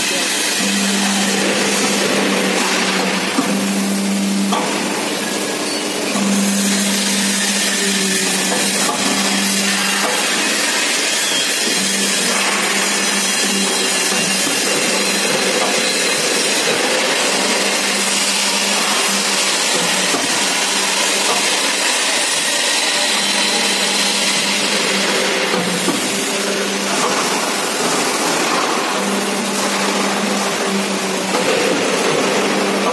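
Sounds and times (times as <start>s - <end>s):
machine motor humming: 0.0s - 32.9s
rollers working metal sheet: 0.0s - 32.9s.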